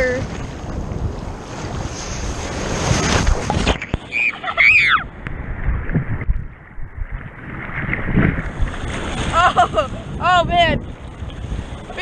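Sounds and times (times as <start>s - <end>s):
surf breaking and water splashing: 0.0s - 12.0s.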